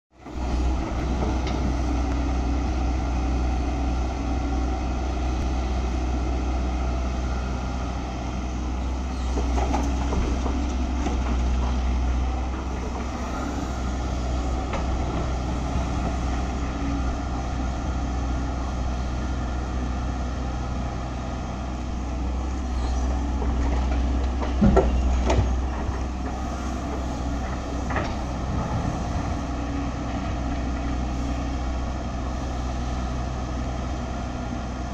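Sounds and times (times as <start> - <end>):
excavator diesel engine under load: 0.1 - 34.9.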